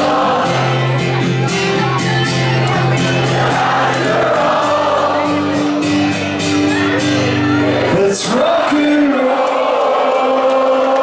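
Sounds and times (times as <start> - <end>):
crowd singing along: 0.0 - 11.0
strummed acoustic guitar: 0.0 - 11.0.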